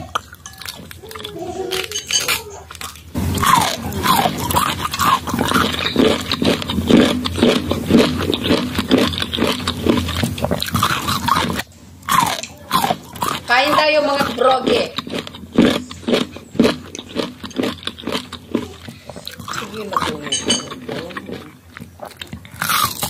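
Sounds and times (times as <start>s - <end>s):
chewing crisp mango crunches: 0.0s - 23.0s.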